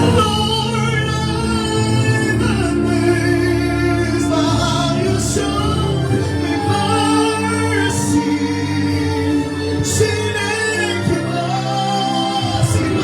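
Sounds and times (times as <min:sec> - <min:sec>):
band holding sustained chords: 0:00.0 - 0:13.0
people singing: 0:00.0 - 0:13.0.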